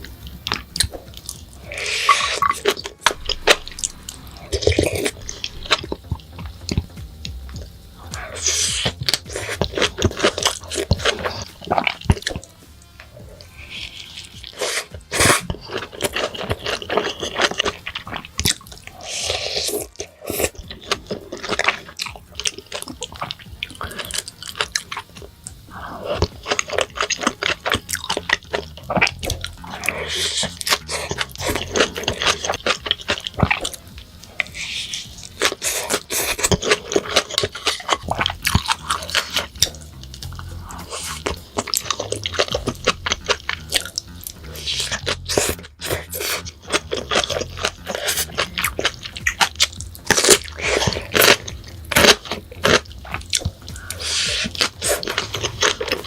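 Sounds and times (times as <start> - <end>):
person biting and chewing: 0.0 - 56.0
wet sticky mouth sounds: 0.3 - 56.0.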